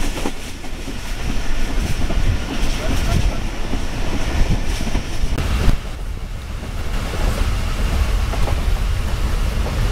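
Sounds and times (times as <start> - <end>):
train coach rumbling: 0.0 - 9.9
wind rushing past window: 0.0 - 9.9.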